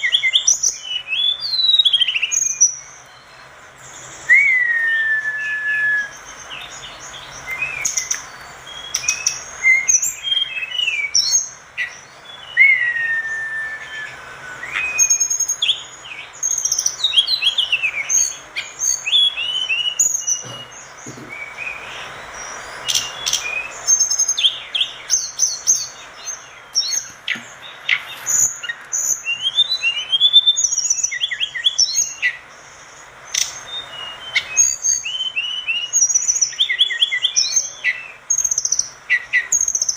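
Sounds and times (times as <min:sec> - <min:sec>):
songbird chirping and whistling: 0:00.0 - 0:39.9
steady hiss: 0:00.0 - 0:39.9.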